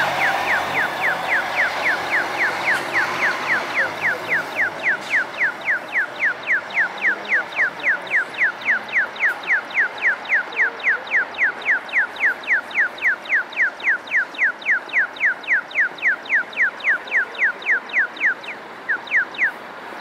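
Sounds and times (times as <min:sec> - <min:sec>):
bus engine running: 0:00.0 - 0:20.0
rapid electronic chirps: 0:00.0 - 0:20.0.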